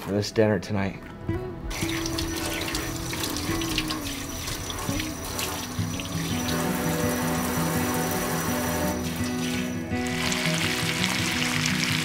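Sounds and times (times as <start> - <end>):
background music with held notes: 0.0 - 12.0
faucet water splashing into sink: 1.7 - 12.0.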